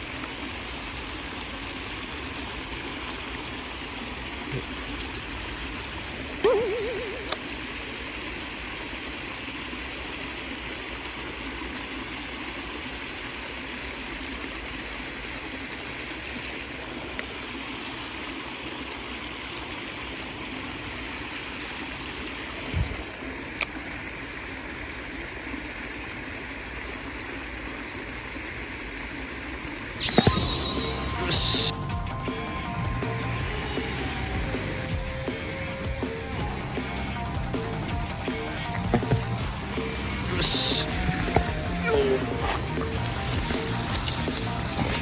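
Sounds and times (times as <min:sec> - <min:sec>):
water rushing over weir: 0:00.0 - 0:45.0.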